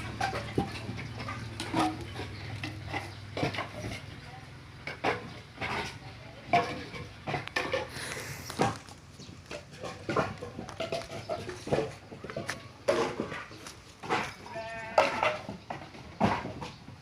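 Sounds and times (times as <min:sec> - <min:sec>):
wood knocking and clattering: 0:00.0 - 0:04.2, 0:04.8 - 0:17.0.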